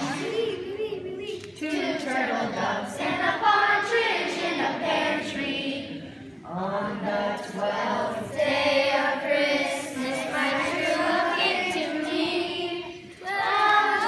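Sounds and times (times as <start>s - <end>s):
children singing a carol: 0.0s - 14.0s.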